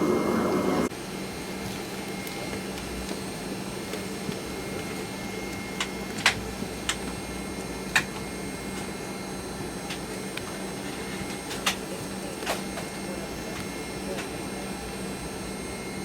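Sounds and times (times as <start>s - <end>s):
cabin air conditioning hum: 0.0s - 16.0s.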